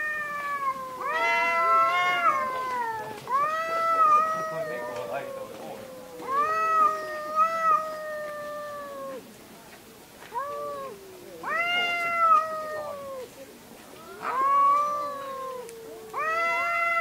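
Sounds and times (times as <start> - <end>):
cats yowling: 0.0 - 9.3, 10.3 - 13.4, 14.0 - 17.0.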